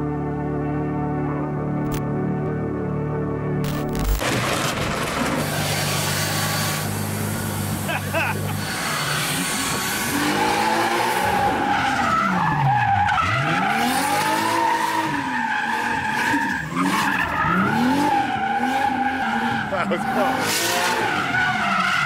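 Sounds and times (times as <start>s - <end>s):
car engine revving: 3.6s - 22.0s.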